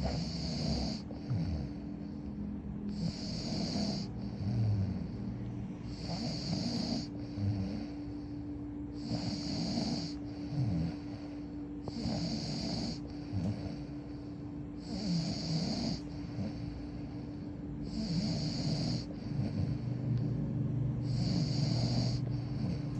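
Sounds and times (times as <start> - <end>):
person snoring: 0.0 - 20.4, 21.0 - 22.9
steady low hum: 0.0 - 22.9.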